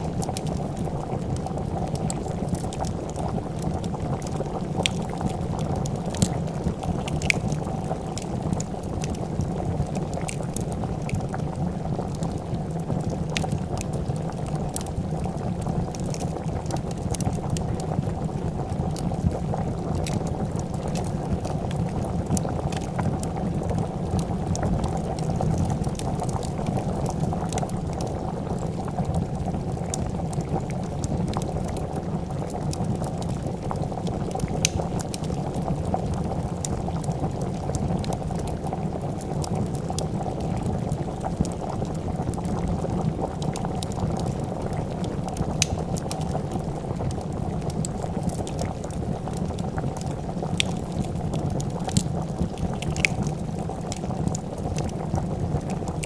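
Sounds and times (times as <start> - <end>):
soup boiling and bubbling: 0.0 - 56.0
wood fire crackling: 0.0 - 56.0.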